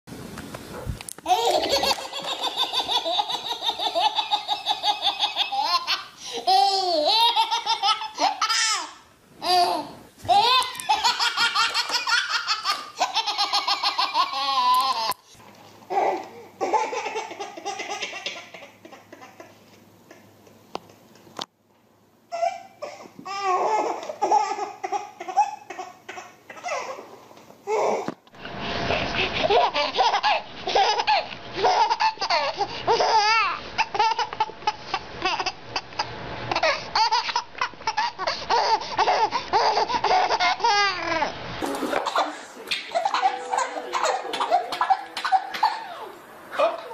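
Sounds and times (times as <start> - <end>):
babies laughing: 1.3 - 15.2, 15.9 - 20.4, 22.3 - 27.1, 29.4 - 46.9.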